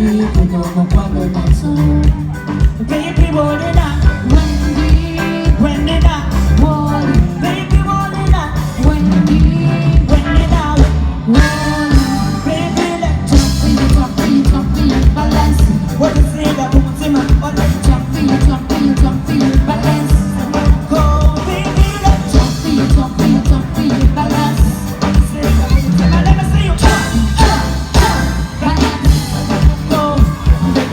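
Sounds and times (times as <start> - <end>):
loud backing music with beat: 0.0 - 30.9
woman singing: 0.0 - 30.9.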